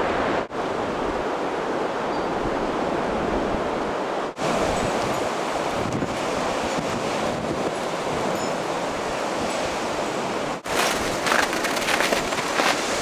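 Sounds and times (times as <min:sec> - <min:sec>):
blizzard wind blowing: 0:00.0 - 0:13.0
wind gusts crackling on microphone: 0:00.0 - 0:13.0.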